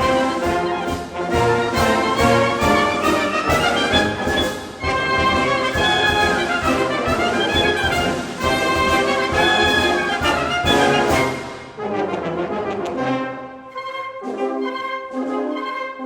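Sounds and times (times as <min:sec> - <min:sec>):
wind band playing a march: 0:00.0 - 0:16.0.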